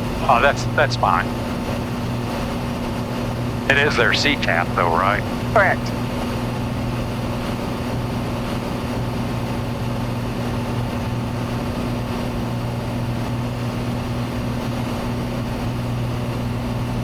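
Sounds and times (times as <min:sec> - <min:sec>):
aircraft engine hum in cabin: 0:00.0 - 0:17.0.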